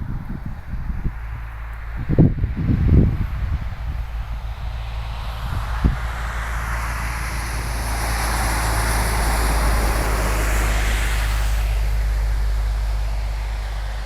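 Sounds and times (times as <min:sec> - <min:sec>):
motor vehicle noise: 0:00.0 - 0:14.0
wind rumble on microphone: 0:00.0 - 0:14.0.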